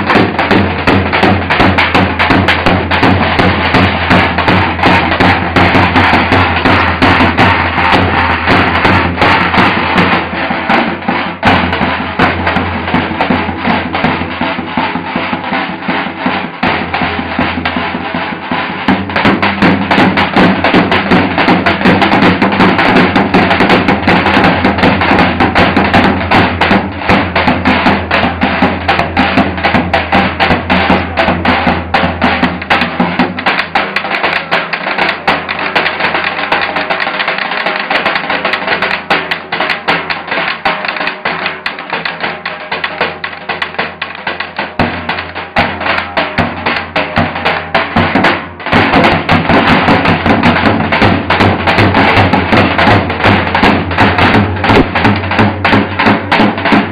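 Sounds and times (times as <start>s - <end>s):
bass drum beaten fast: 0.0s - 56.9s.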